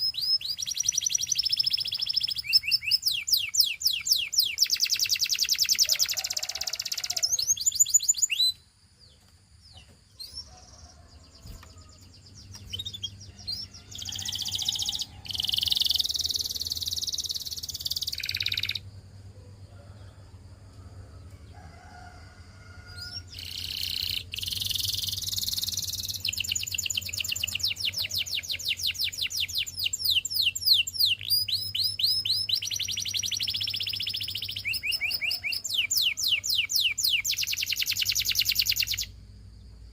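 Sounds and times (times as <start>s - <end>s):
canary singing trills: 0.0s - 19.1s, 22.9s - 39.3s.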